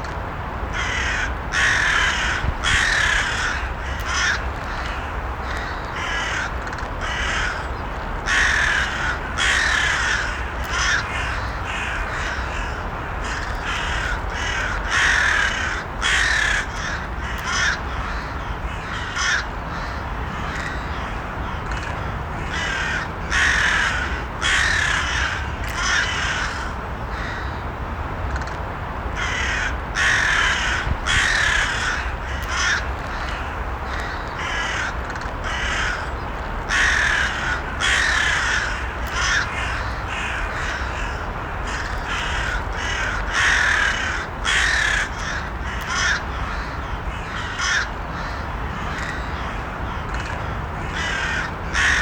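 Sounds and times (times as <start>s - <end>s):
crows cawing: 0.7s - 27.6s, 29.2s - 52.0s.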